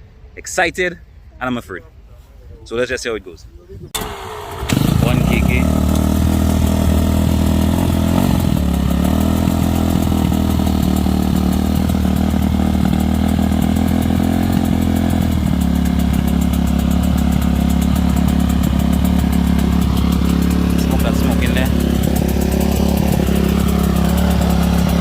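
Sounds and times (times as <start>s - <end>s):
dirt bike engine idling: 4.0s - 25.0s.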